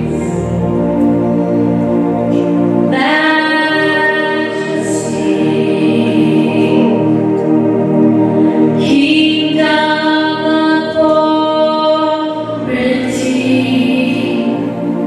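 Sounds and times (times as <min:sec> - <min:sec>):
music with singing voices: 0:00.0 - 0:15.0.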